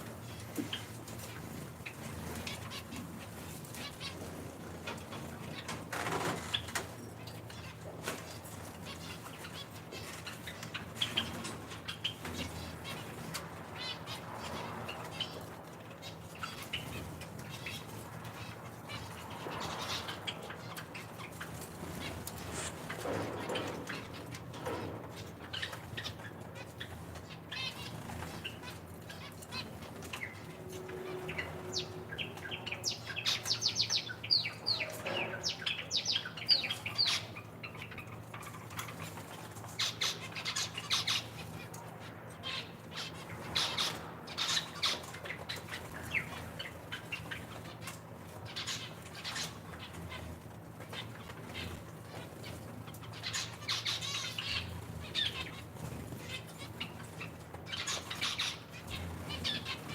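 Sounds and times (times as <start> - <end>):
finches chirping: 0.1 - 59.9
steady low hum: 6.4 - 59.9.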